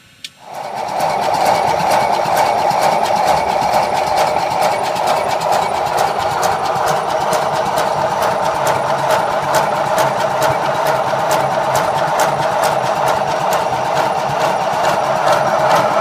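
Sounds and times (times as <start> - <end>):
steam locomotive exhaust clatter: 0.3 - 16.0
wheels turning on rollers: 0.4 - 16.0.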